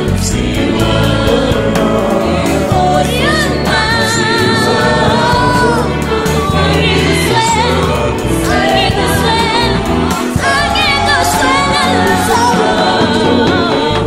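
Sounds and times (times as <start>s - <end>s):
choir singing a hymn: 0.0s - 14.0s
low accompanying notes: 0.0s - 14.0s.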